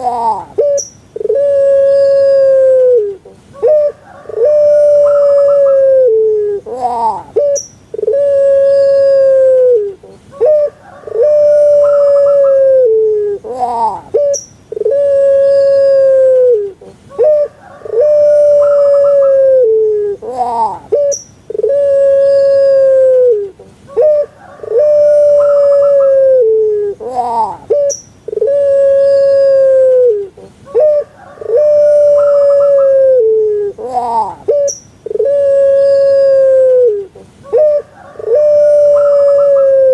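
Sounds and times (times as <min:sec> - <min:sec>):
dove cooing call: 0:00.0 - 0:39.9.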